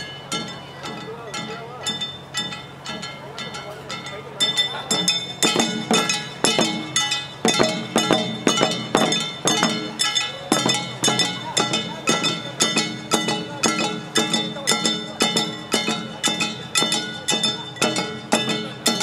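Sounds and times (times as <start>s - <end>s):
hand gongs struck with mallets: 0.0s - 19.0s.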